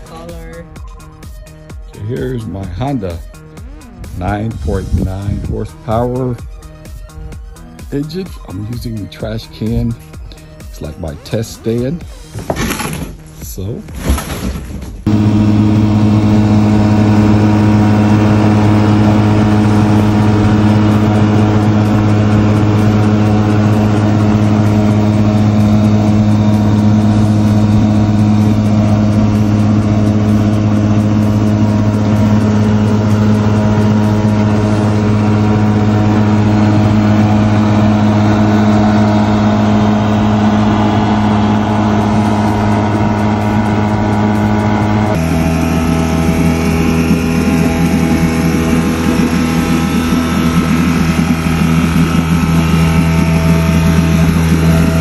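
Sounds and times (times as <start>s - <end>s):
outboard motor running steadily: 0.0s - 13.1s, 15.0s - 55.0s.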